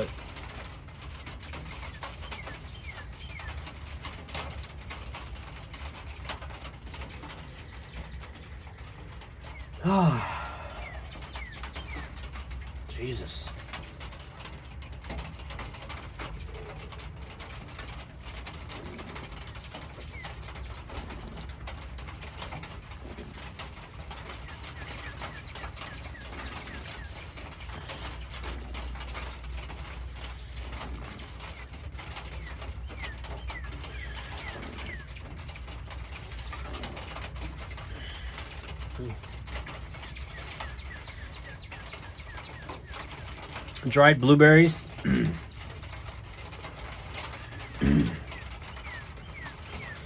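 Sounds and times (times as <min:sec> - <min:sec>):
bird chirps: 0:00.0 - 0:04.7, 0:05.4 - 0:50.0
steady rain pattering: 0:00.0 - 0:50.0.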